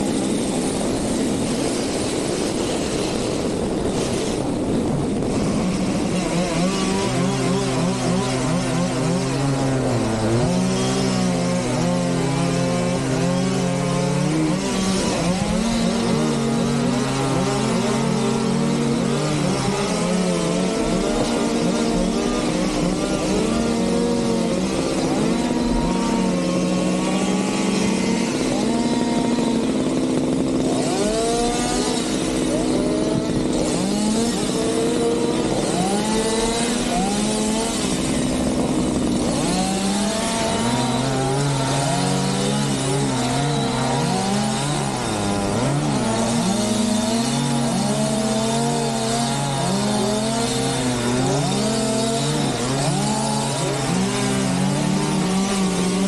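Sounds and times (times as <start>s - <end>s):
engine revving up and down: 0.0s - 56.0s
steady engine drone: 0.0s - 56.0s.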